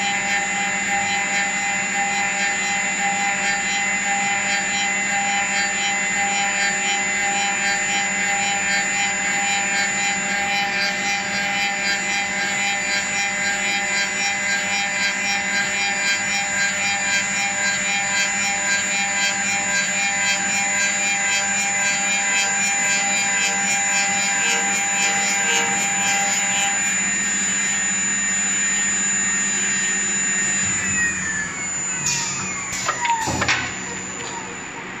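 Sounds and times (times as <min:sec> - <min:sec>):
lathe spindle whine: 0:00.0 - 0:35.0
wood being cut: 0:00.0 - 0:35.0.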